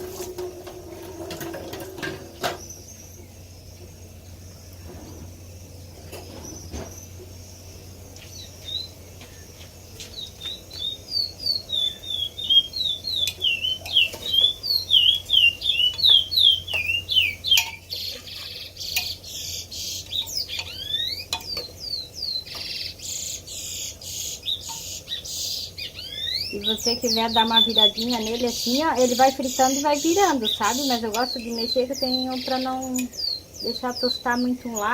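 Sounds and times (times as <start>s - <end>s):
bird chirping: 2.0s - 34.9s
harsh scratchy bird calls: 4.8s - 34.9s.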